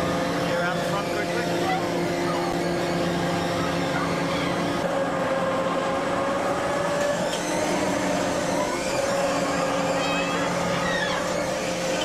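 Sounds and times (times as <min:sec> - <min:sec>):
ride machinery humming: 0:00.0 - 0:12.0.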